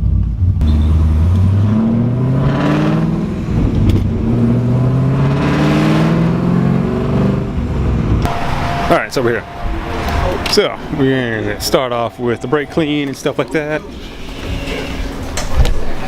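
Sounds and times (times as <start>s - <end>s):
car engine accelerating: 0.0s - 14.4s.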